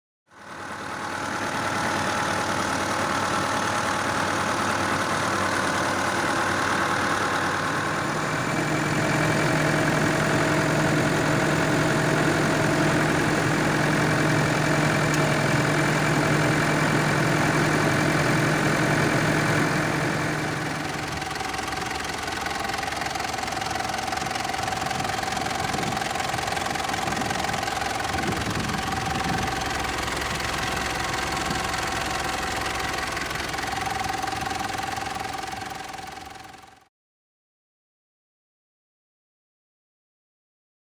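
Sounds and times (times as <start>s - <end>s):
diesel engine idling: 0.3s - 36.9s.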